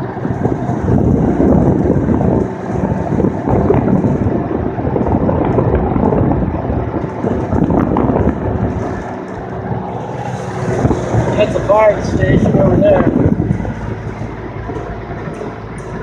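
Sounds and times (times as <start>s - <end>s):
road and tyre noise: 0.0s - 16.0s
wind buffeting microphone: 0.0s - 16.0s
small knocks and rattles: 0.2s - 16.0s.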